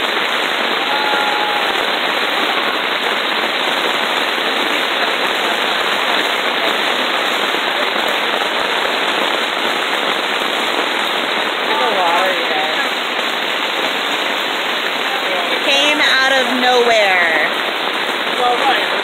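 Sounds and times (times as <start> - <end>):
heavy rain pouring: 0.0 - 19.0
raindrops pelting a tarp: 0.0 - 19.0.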